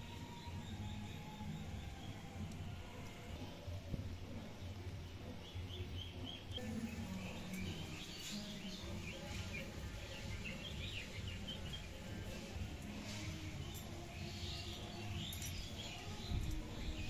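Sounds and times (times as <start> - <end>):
small birds twittering: 0.0 - 17.0
steady low hum: 0.0 - 17.0.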